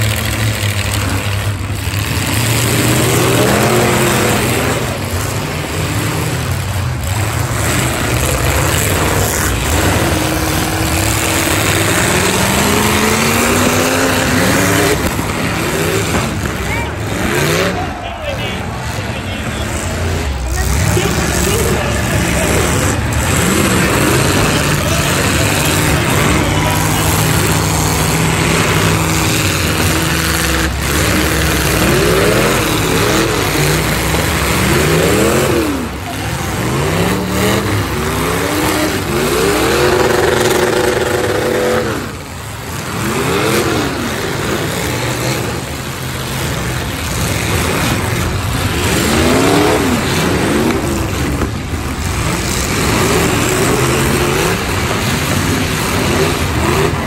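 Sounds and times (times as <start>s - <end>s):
car engines revving: 0.0s - 57.0s
cars crashing: 0.0s - 57.0s.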